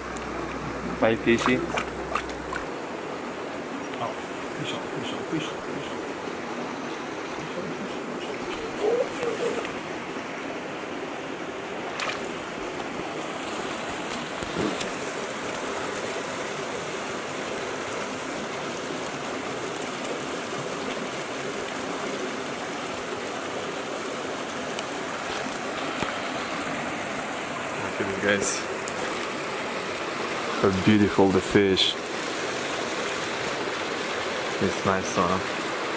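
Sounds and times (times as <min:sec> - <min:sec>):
stream rushing over rocks: 0:00.0 - 0:35.9.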